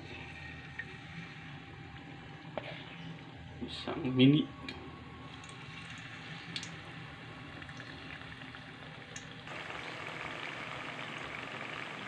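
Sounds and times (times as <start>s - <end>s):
food deep-frying in hot oil: 0.0s - 3.3s, 5.2s - 12.0s.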